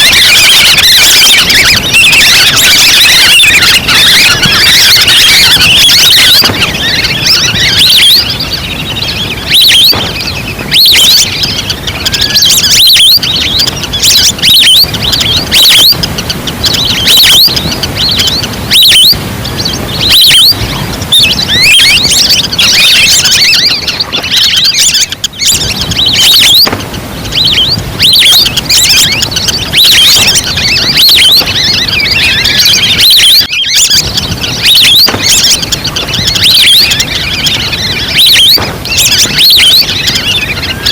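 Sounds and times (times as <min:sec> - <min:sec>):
duck call whistles and chirps: 0:00.0 - 0:40.9.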